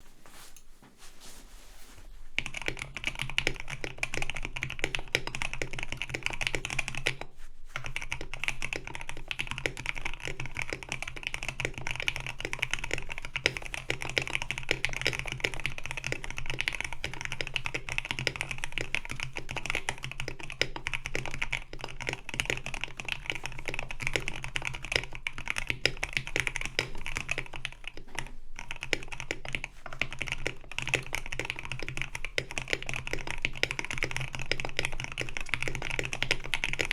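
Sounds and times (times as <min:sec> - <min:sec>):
mechanical keyboard typing: 0:02.4 - 0:07.2, 0:07.8 - 0:36.9.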